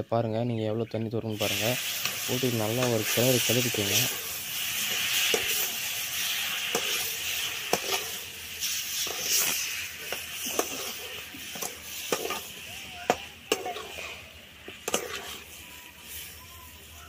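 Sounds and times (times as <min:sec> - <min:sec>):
mushrooms sizzling in a pan: 0:01.3 - 0:17.0.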